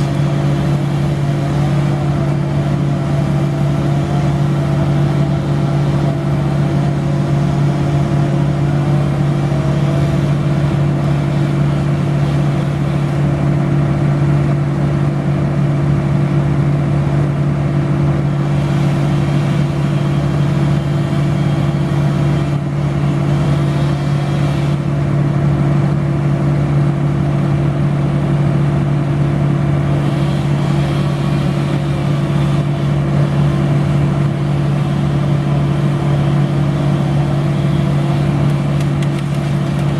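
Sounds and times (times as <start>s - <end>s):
large engine humming: 0.0s - 39.9s.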